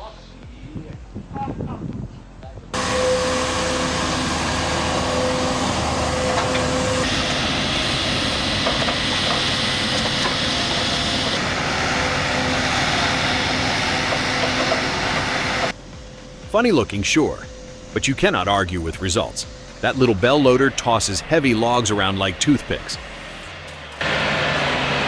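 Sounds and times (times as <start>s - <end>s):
heavy machinery engine running: 2.8s - 16.8s, 17.5s - 25.0s.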